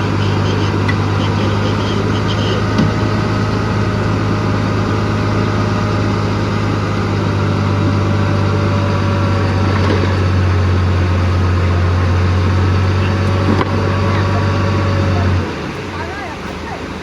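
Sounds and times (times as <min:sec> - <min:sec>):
heavy diesel engine running: 0:00.0 - 0:17.0
thin steady whine: 0:00.0 - 0:17.0.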